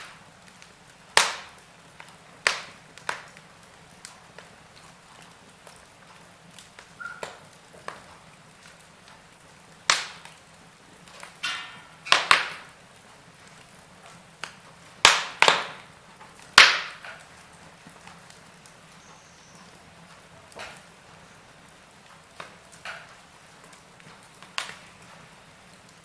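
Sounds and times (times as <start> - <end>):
faint steady hiss: 0.0 - 26.0
fire popping and crackling: 0.0 - 26.0.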